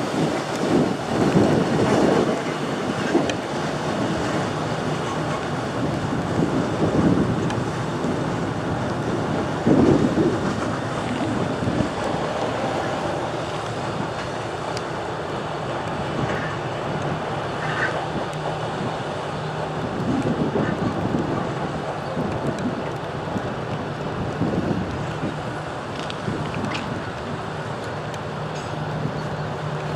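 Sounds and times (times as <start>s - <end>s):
diesel locomotive running: 0.0s - 29.9s
rain: 0.0s - 29.9s
wind buffeting microphone: 0.0s - 29.9s.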